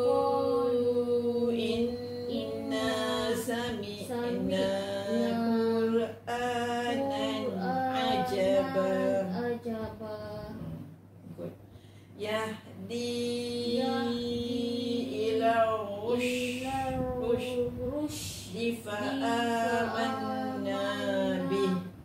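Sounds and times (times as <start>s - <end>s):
woman chanting melodic recitation: 0.0s - 10.8s, 12.2s - 22.0s.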